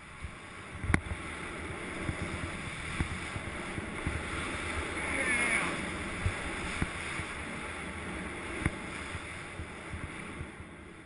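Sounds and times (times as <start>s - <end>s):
wind rushing over microphone: 0.0s - 11.0s
skis sliding through snow: 1.1s - 10.5s.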